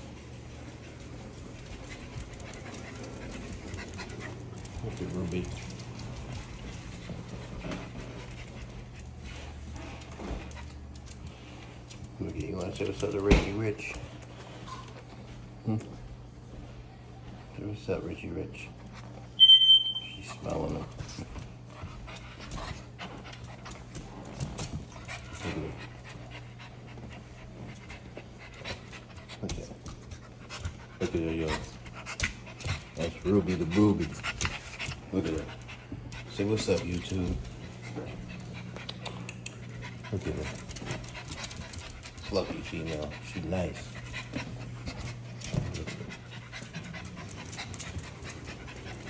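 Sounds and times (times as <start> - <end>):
dog panting: 0.0 - 15.3, 20.4 - 49.0
steady low hum: 0.0 - 49.0.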